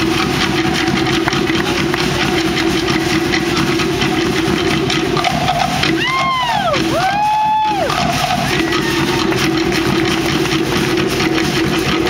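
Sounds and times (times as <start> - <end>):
fast continuous drumming: 0.0 - 12.0.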